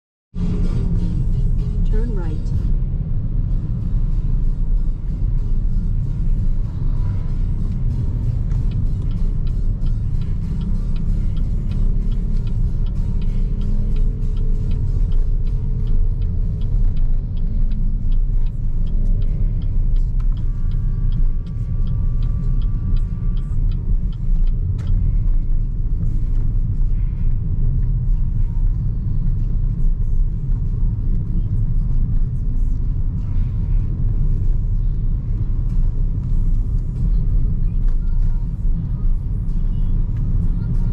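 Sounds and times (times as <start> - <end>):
tyre and road noise: 0.4 - 40.9.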